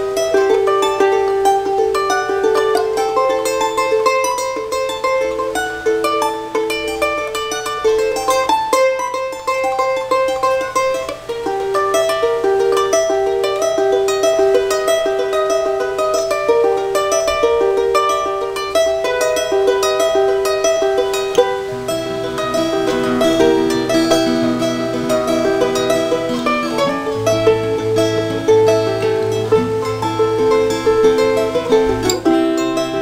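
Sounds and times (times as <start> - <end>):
charango strummed and plucked: 0.0 - 33.0.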